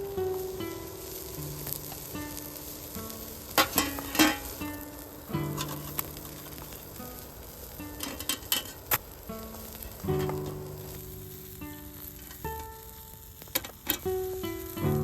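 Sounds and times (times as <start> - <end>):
sizzling hiss: 0.0 - 15.0
soft piano-like music: 0.0 - 15.0.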